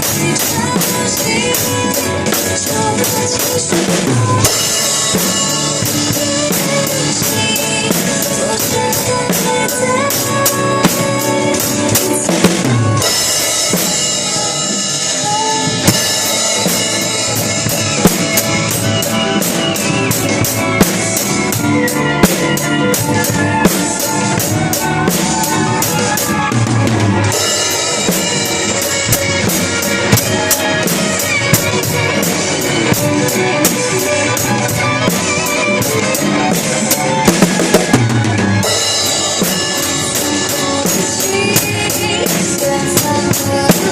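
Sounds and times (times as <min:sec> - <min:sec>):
drum kit playing: 0:00.0 - 0:43.9
pop ballad backing music: 0:00.0 - 0:43.9.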